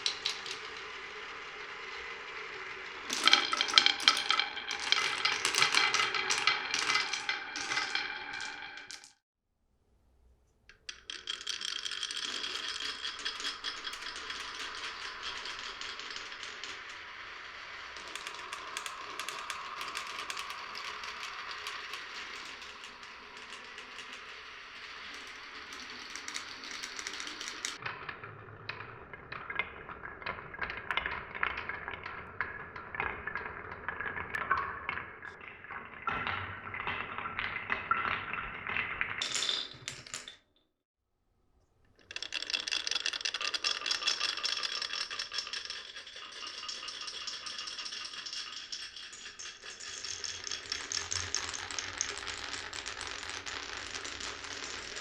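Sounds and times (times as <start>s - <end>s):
marbles rattling on wooden run: 0.0s - 9.2s, 10.7s - 27.9s, 35.7s - 40.4s, 42.0s - 55.0s.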